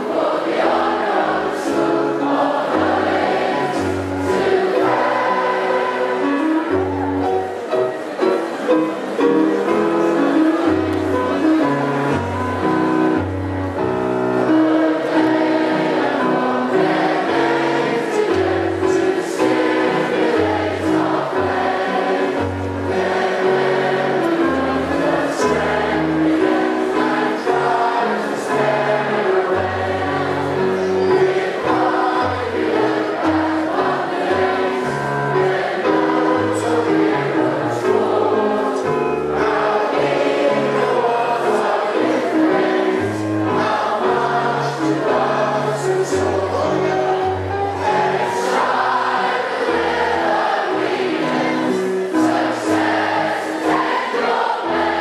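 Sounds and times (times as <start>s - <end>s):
choir singing held chords: 0.0s - 55.0s.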